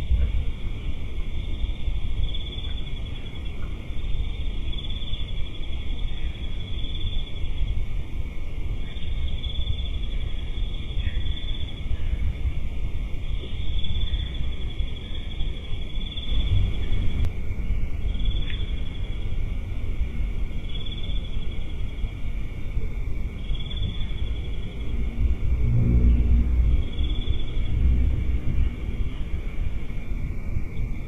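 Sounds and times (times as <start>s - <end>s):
low background rumble: 0.0s - 31.0s
night insects trilling: 0.0s - 31.0s.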